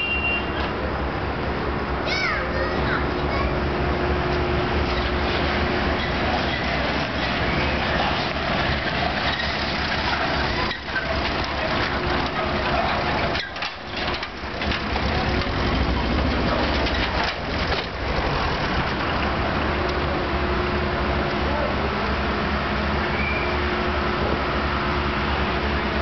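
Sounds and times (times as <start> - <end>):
vehicle engine droning: 2.6 - 26.0.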